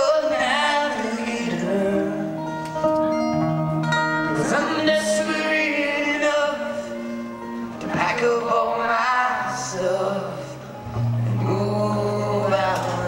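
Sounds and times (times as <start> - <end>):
acoustic guitars strummed and picked: 0.0 - 13.0
person singing: 0.0 - 13.0.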